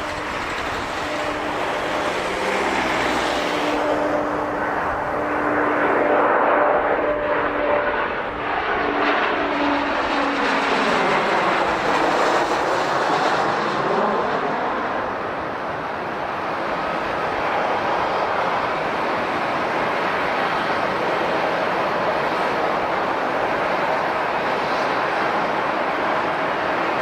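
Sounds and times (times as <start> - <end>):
jet airliner passing: 0.0 - 27.0.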